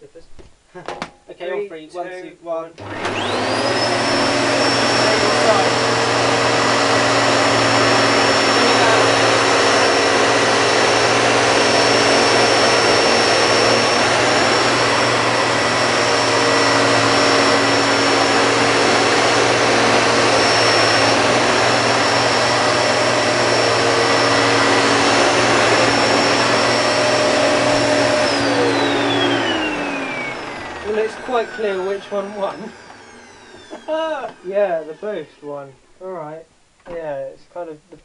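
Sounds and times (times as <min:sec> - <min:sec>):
vacuum cleaners whining: 0:02.8 - 0:36.4.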